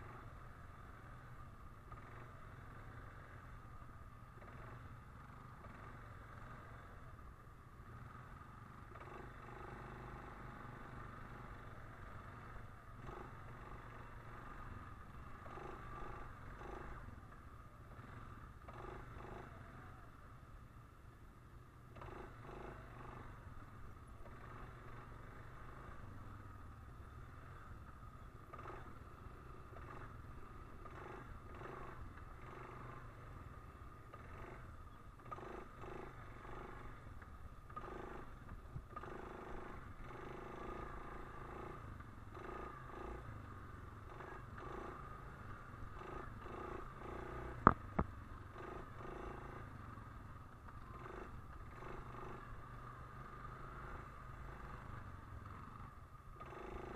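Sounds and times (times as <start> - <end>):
atv engine rumble: 0.0 - 56.9.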